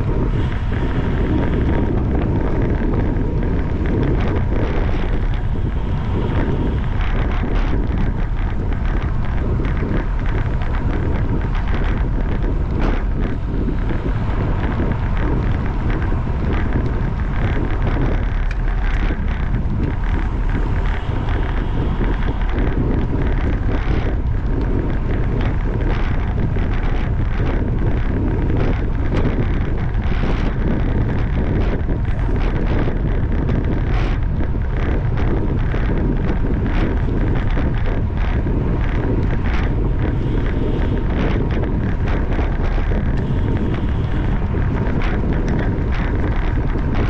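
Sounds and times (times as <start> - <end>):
small rattles and clicks: 0.0 - 47.0
wind buffeting microphone: 0.0 - 47.0.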